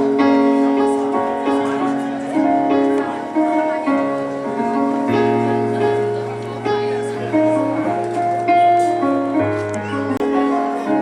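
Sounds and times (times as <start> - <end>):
instrumental music of held chords: 0.0 - 11.0.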